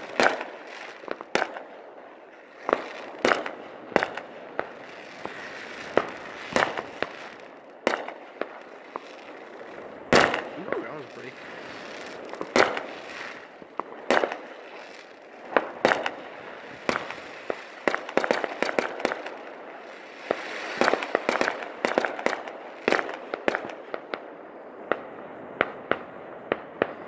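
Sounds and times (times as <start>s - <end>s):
fireworks bangs and pops: 0.0s - 27.0s
fireworks crackling: 0.0s - 27.0s.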